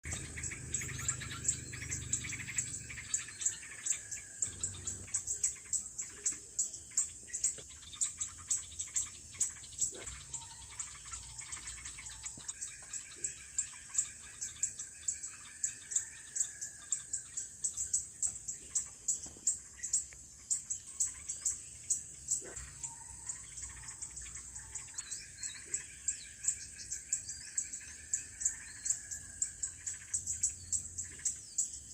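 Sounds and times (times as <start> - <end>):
low insect trilling: 0.0 - 31.4
insects chirping rhythmically: 0.0 - 31.9.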